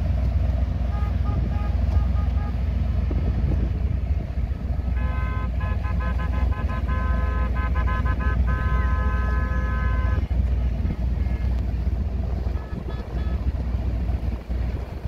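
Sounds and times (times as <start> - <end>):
low rumble: 0.0 - 15.0
boat horn tooting: 0.8 - 2.9, 4.6 - 15.0.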